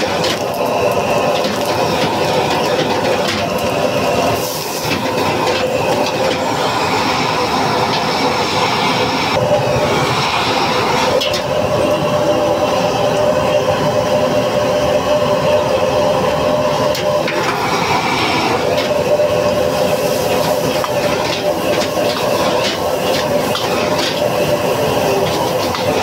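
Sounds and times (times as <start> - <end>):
food sizzling in a wok: 0.0 - 13.2, 16.1 - 26.0
gas burner flame rushing: 0.0 - 26.0.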